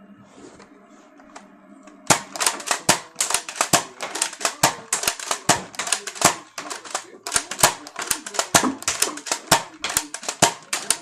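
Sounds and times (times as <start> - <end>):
plastic toy blaster clicking: 2.1 - 11.0.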